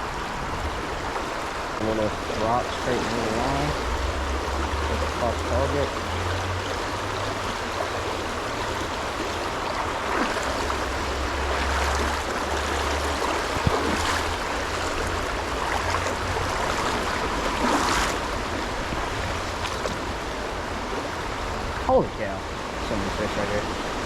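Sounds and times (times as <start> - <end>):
stream water rushing: 0.0 - 24.0
low uneven rumble: 1.7 - 23.8.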